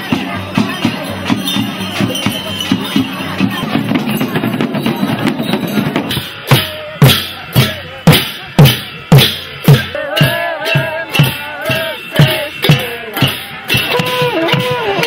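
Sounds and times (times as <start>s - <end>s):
heavy drum beats: 0.0s - 15.0s
music with drums and percussion: 0.0s - 15.0s.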